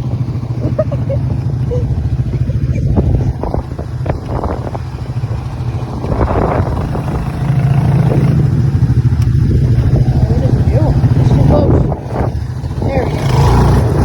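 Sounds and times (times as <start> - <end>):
atv engine under throttle: 0.0 - 14.0.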